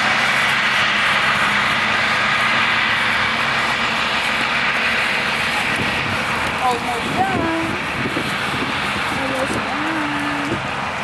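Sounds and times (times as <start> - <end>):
engine-like droning: 0.0 - 11.0.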